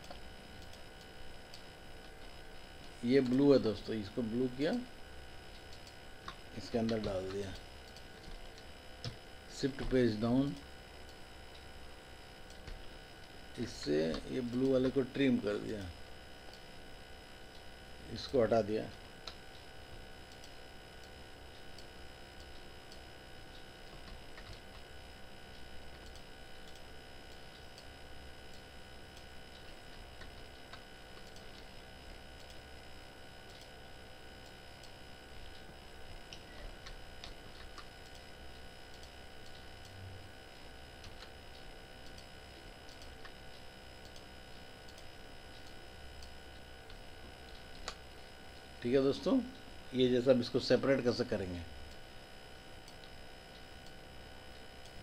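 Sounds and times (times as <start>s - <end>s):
electrical hum and hiss: 0.0s - 55.0s.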